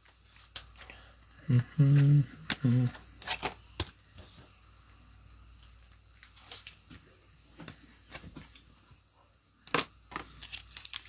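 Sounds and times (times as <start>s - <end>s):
cards and wrappers rustling: 0.0s - 4.5s, 5.3s - 8.7s, 9.6s - 11.0s.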